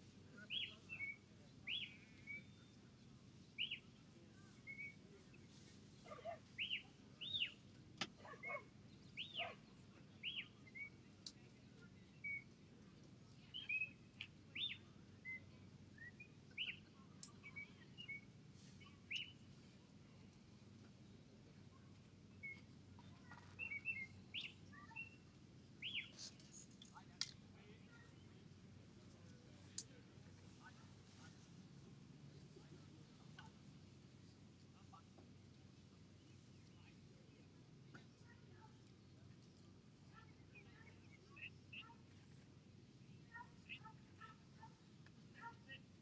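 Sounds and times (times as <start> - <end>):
faint low background noise: 0.0 - 46.0
small birds chirping: 0.4 - 31.4, 36.1 - 42.6, 43.2 - 45.9.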